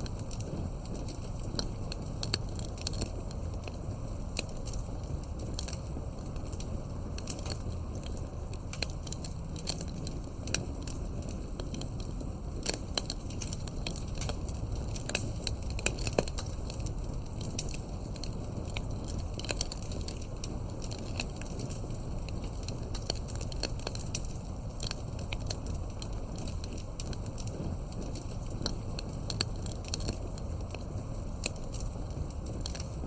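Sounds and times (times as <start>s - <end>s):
campfire crackling: 0.0s - 33.0s
low rumble of flame: 0.0s - 33.0s
sharp fire pops: 0.0s - 33.0s.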